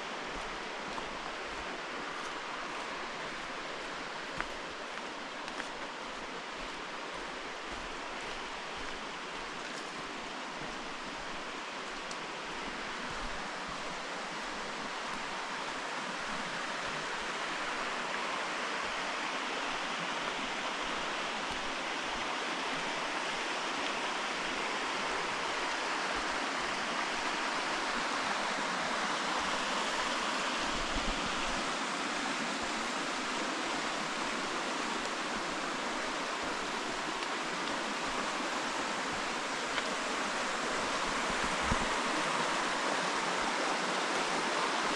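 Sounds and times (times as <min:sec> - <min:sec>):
forest stream rushing: 0:00.0 - 0:44.9.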